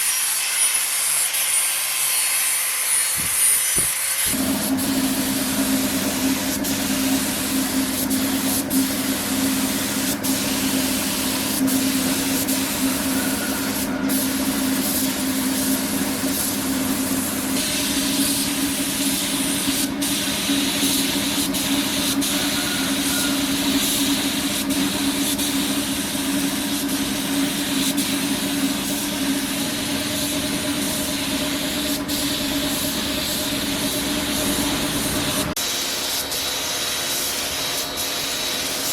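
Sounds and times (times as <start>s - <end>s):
air compressor motor humming: 3.2s - 38.9s
spray gun hissing: 3.2s - 38.9s.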